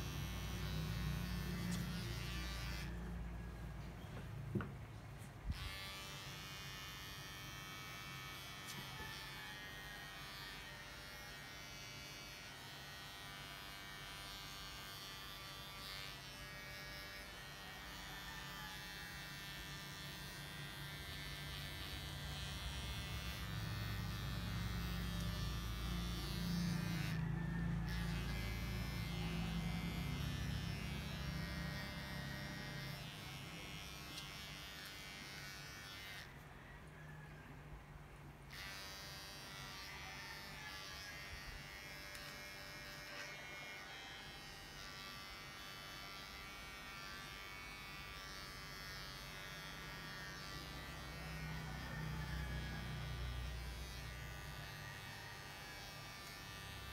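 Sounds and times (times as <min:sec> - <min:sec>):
electric clippers buzzing: 0:00.0 - 0:03.5, 0:05.4 - 0:36.5, 0:38.5 - 0:56.9.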